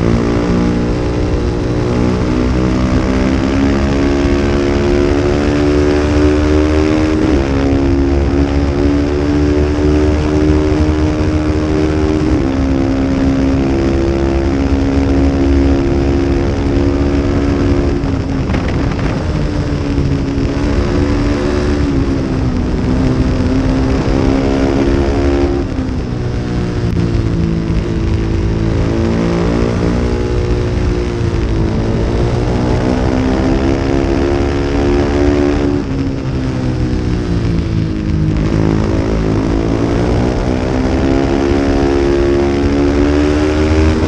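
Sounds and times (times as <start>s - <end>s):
racing motorcycle engine: 0.0s - 44.0s.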